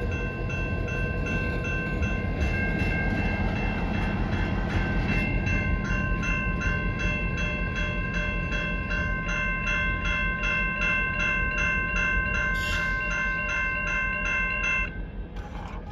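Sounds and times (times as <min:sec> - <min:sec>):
crossing bell ringing: 0:00.0 - 0:15.8
low rumble of train rolling: 0:00.0 - 0:15.9.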